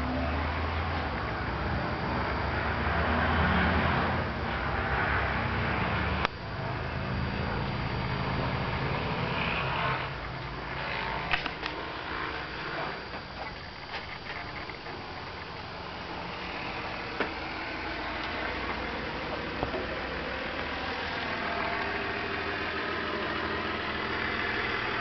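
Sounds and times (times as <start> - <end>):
low mechanical rumble: 0.0 - 25.0.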